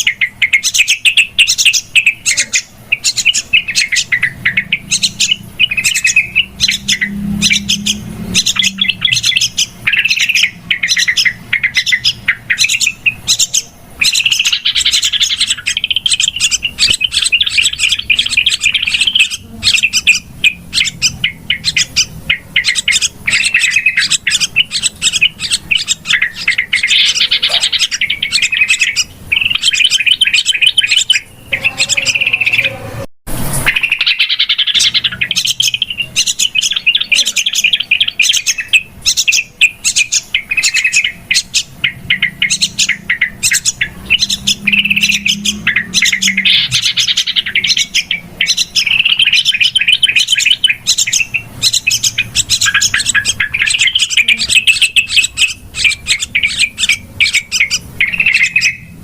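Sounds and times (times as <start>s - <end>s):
bulbuls chattering calls: 0.0s - 59.0s.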